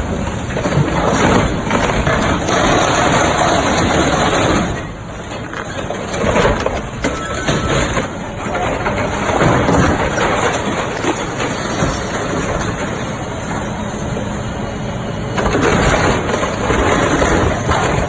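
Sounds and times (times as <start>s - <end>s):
excavator diesel engine rumbling: 0.0s - 18.0s.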